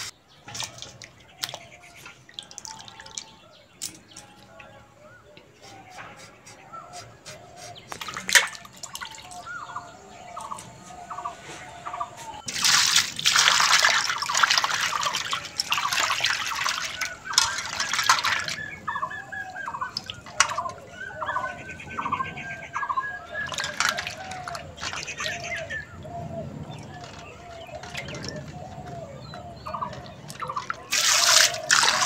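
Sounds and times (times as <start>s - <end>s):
water pouring and splashing: 0.0s - 4.7s, 7.4s - 21.4s, 23.3s - 32.0s
birds chirping: 0.0s - 32.0s.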